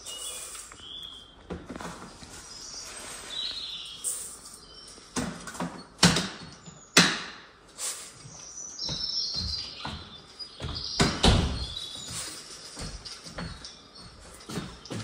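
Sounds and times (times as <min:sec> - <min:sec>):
birds chirping through speaker: 0:00.0 - 0:15.0.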